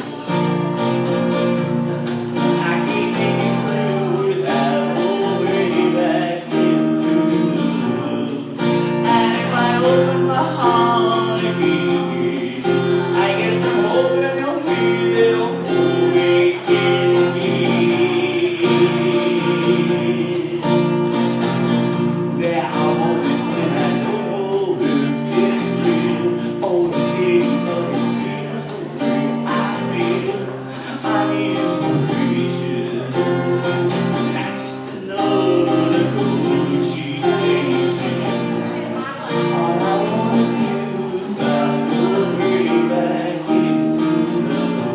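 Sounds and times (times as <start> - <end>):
person singing: 0.0 - 44.9
strummed acoustic guitar: 0.0 - 44.9.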